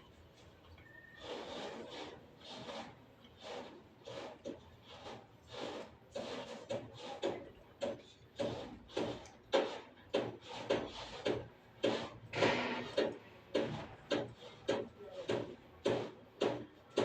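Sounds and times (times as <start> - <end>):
rasping scraping strokes: 1.0 - 17.0.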